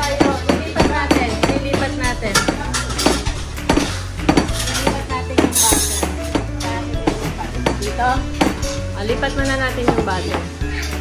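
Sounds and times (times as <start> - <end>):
background music with bass line: 0.0 - 11.0
cookware clinking and clattering: 0.0 - 11.0.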